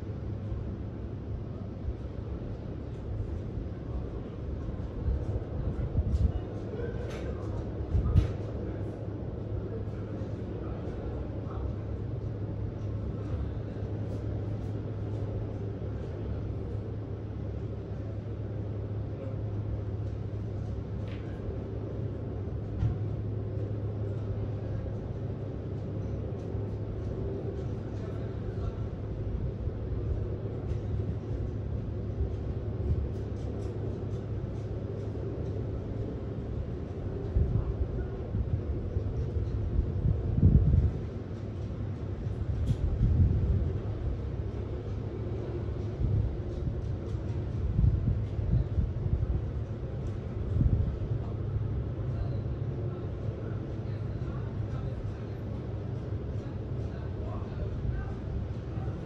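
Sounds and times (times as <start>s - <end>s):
ship engine rumble and hum: 0.0s - 59.0s
wind and water noise: 0.0s - 59.0s.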